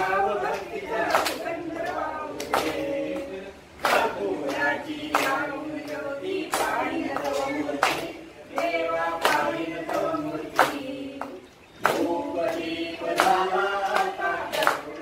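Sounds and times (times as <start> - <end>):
group singing in unison: 0.0 - 15.0
hand claps: 0.0 - 15.0.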